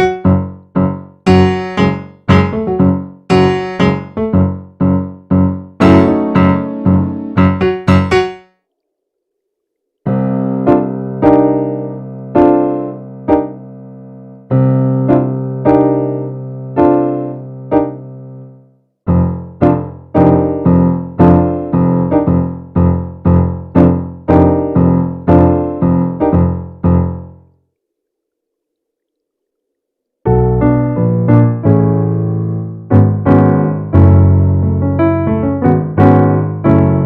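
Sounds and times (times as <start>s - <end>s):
electric piano chords and melody: 0.0s - 8.5s, 10.1s - 27.5s, 30.3s - 37.0s.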